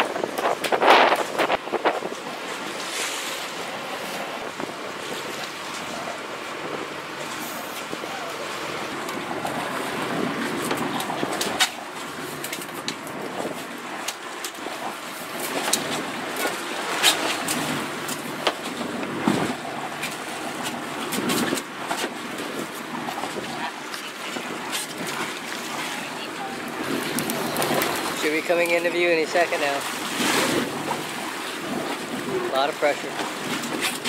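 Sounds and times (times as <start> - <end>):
water against boat hull: 0.0 - 34.0
wind: 0.0 - 34.0.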